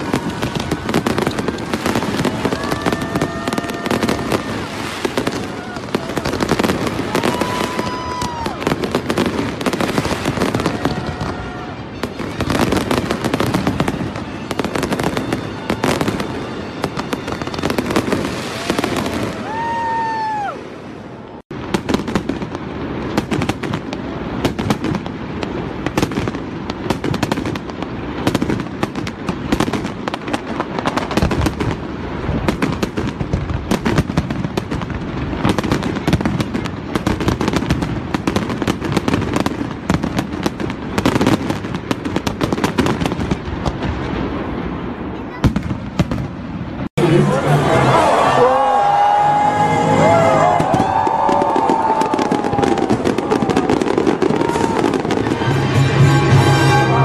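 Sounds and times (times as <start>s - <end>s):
firework whistling: 0.0s - 21.1s, 22.4s - 57.0s
fireworks bangs and crackling: 0.0s - 57.0s.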